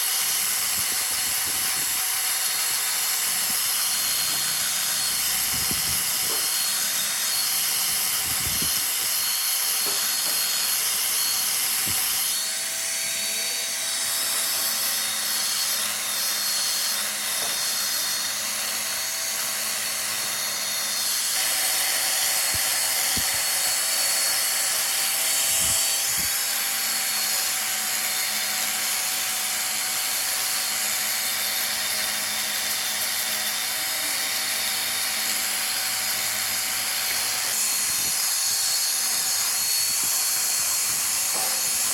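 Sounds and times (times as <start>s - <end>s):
tool hissing on spinning wood: 0.0s - 41.9s
wood lathe motor whine: 0.0s - 41.9s.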